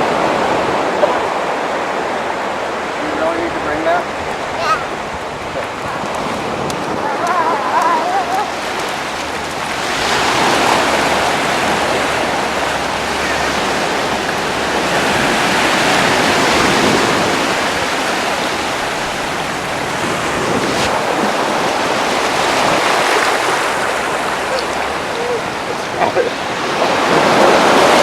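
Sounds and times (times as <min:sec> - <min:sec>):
ocean waves breaking on beach: 0:00.0 - 0:28.0.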